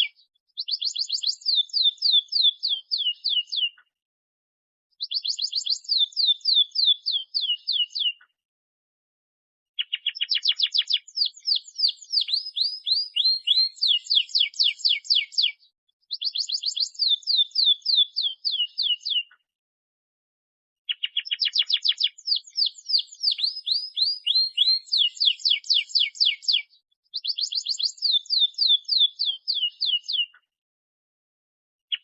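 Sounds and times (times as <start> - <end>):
canary singing trills: 0.0 - 3.8, 5.0 - 8.2, 9.8 - 19.4, 20.9 - 30.4.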